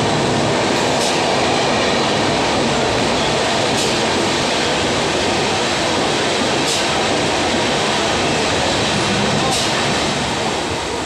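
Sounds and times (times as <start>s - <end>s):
train coaches rushing past: 0.0s - 11.0s.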